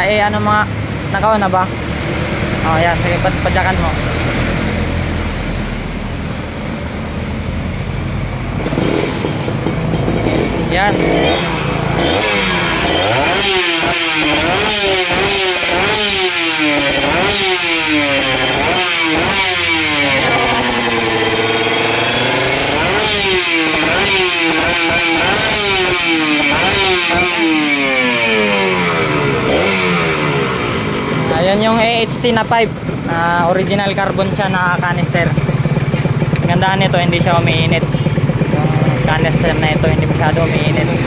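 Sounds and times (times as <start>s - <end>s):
two-stroke engine revving: 0.0s - 41.0s.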